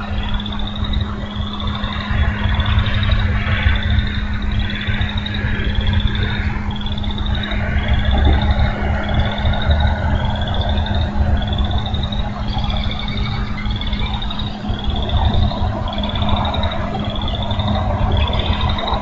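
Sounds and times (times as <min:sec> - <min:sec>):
constant low rumble: 0:00.0 - 0:19.0
steady hum: 0:00.0 - 0:19.0.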